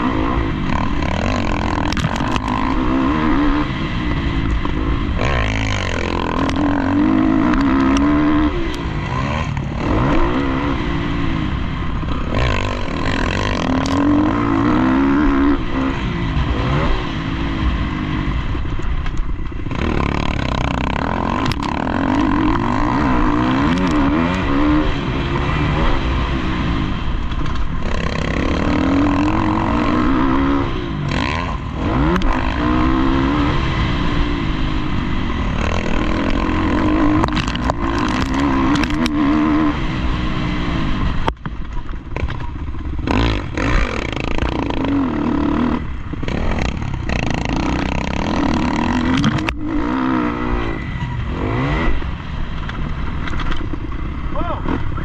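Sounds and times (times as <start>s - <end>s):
motocross bike engine revving: 0.0s - 18.7s, 19.3s - 41.4s, 42.0s - 55.0s.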